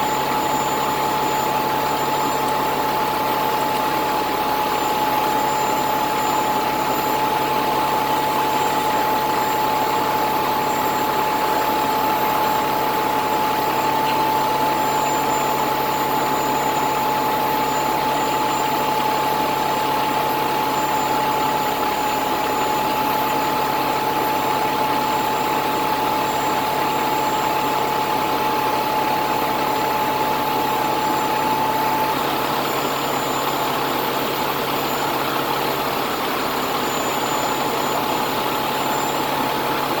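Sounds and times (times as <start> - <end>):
crane engine idling: 0.0 - 40.0
steady high whine: 0.0 - 40.0.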